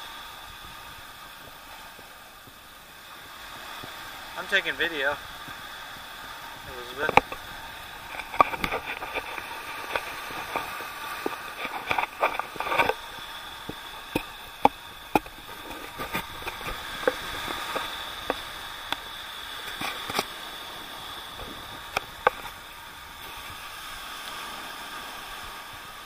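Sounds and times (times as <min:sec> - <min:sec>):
surf hiss: 0:00.0 - 0:26.0.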